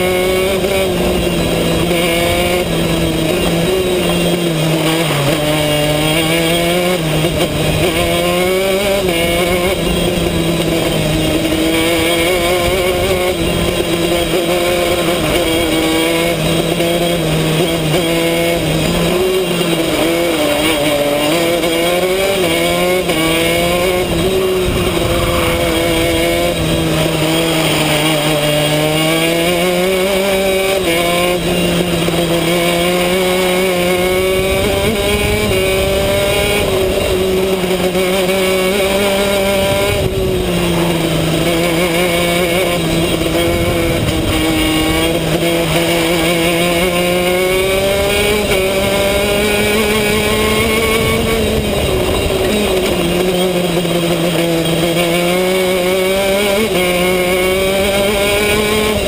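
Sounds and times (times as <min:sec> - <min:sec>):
two-stroke kart engine revving: 0:00.0 - 0:59.0.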